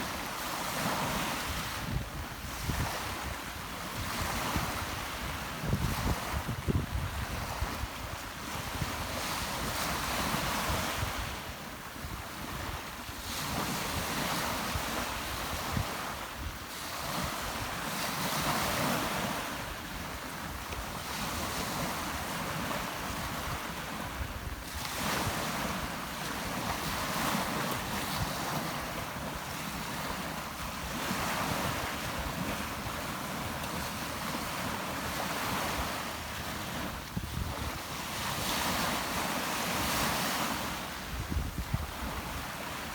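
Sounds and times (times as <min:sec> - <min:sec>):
waves breaking on shore: 0:00.0 - 0:42.9
wind buffeting microphone: 0:00.8 - 0:42.8.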